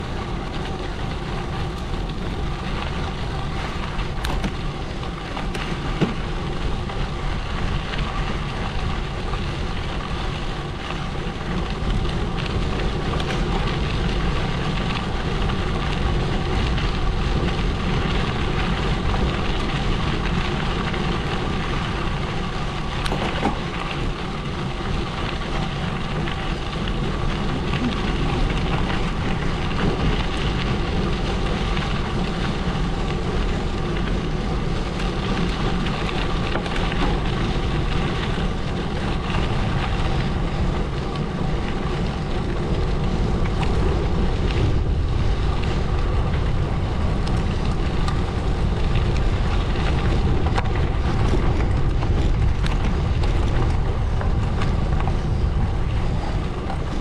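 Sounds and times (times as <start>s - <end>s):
bike tyres crunching on gravel: 0.0s - 57.0s.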